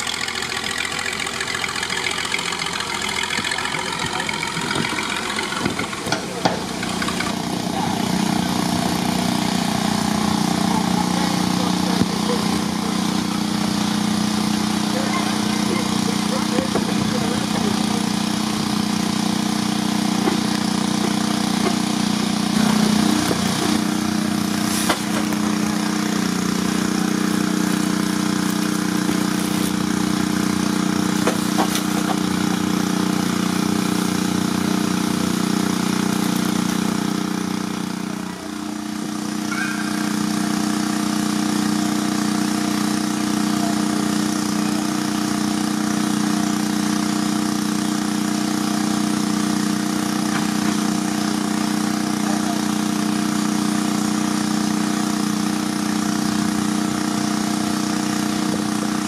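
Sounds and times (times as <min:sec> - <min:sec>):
steam engine mechanical drone: 0:00.0 - 0:59.0.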